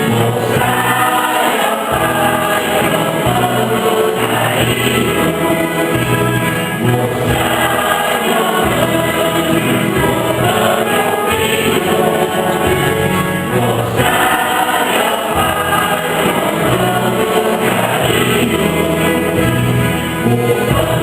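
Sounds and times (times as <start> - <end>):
choir singing a hymn: 0.0 - 21.0
instrumental accompaniment: 0.0 - 21.0
steady bass line: 0.0 - 21.0.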